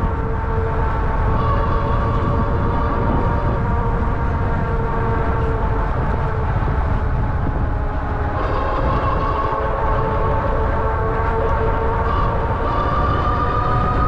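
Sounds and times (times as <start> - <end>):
wind rumble: 0.0 - 14.0.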